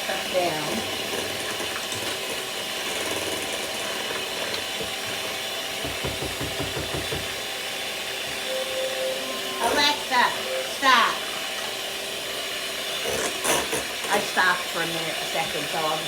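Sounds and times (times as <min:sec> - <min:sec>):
electric mixer beating batter: 0:00.0 - 0:08.4, 0:09.7 - 0:16.0.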